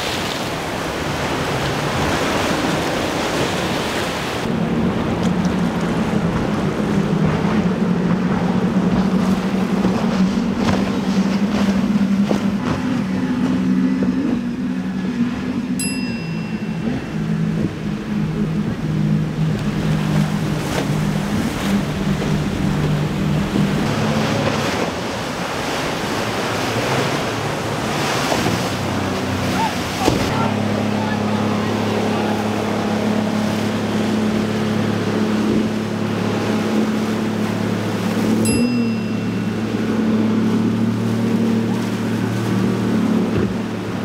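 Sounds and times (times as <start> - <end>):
boat engine drone: 0.0 - 44.0
churning waves and spray: 0.0 - 44.0.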